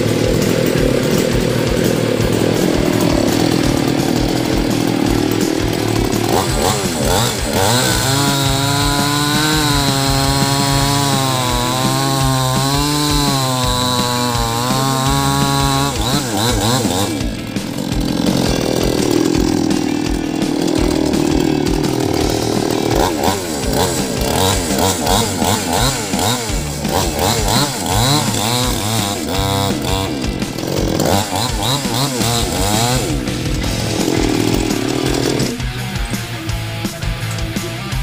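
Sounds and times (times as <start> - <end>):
chainsaw revving: 0.0 - 38.0.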